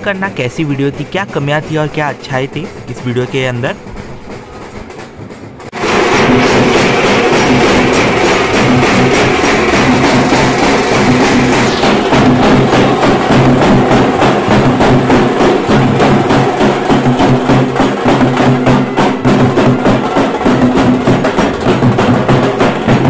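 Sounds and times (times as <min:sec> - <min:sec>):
music with percussive beat: 0:00.0 - 0:23.0.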